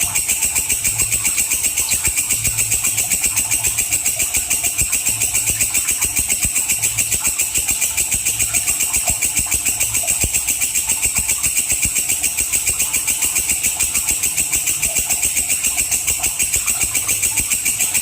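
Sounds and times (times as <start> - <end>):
grasshopper shrill trill: 0.0 - 18.0.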